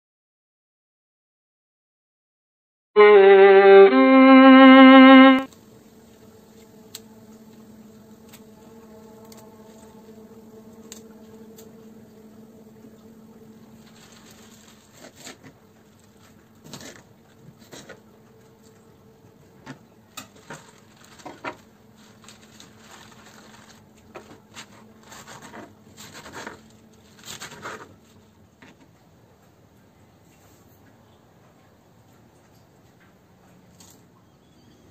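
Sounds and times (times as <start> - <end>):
faint steady hum: 4.5 - 34.9.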